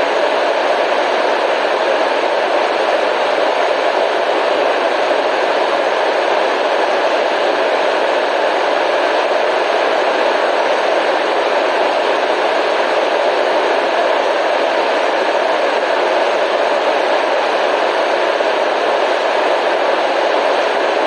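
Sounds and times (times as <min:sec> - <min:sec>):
steady white noise hiss: 0:00.0 - 0:21.0.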